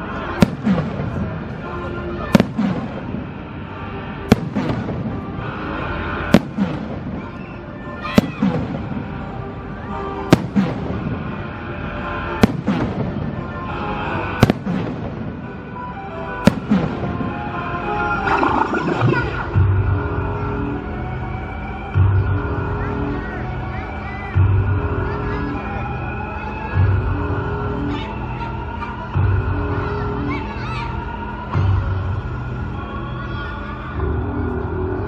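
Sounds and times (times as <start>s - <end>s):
music: 0.0s - 35.0s.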